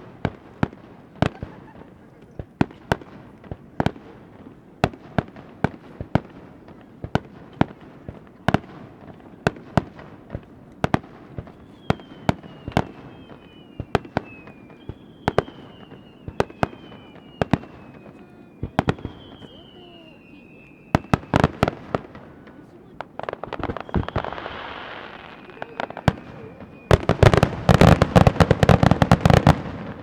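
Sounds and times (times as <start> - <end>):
falling fireworks whistles: 0.0 - 30.0
fireworks bursting with sharp bangs: 0.0 - 30.0.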